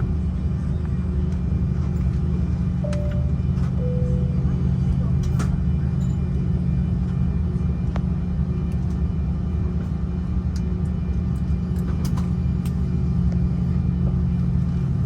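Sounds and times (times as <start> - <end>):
aircraft cabin rumble and hum: 0.0 - 15.0.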